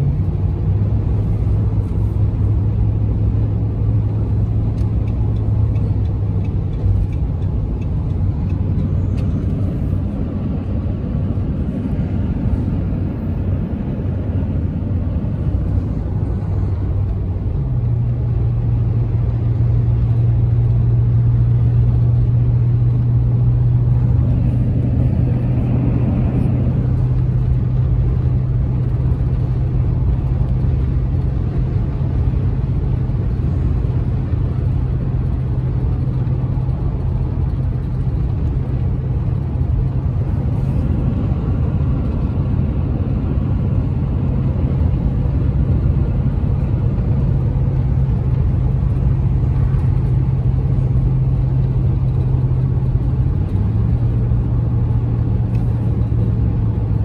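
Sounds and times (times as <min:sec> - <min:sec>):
car engine and tyre drone: 0:00.0 - 0:57.0
rushing road noise: 0:00.0 - 0:57.0.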